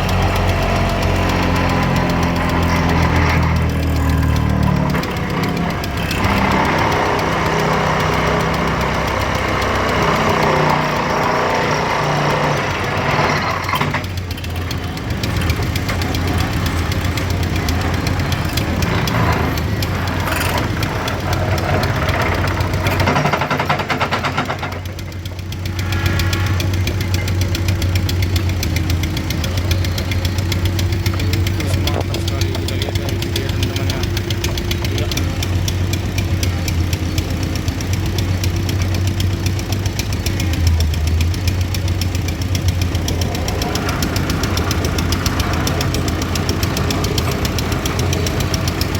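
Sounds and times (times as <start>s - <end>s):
heavy machinery engine droning: 0.0s - 48.9s.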